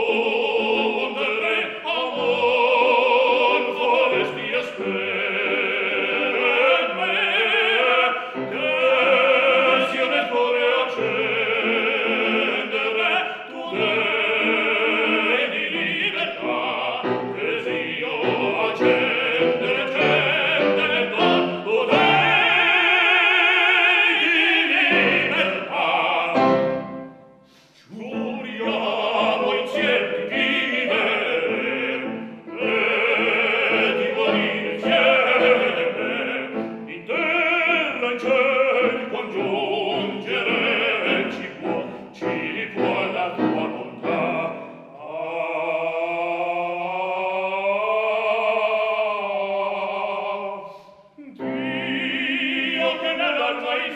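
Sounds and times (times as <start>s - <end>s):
operatic singing: 0.0s - 53.9s.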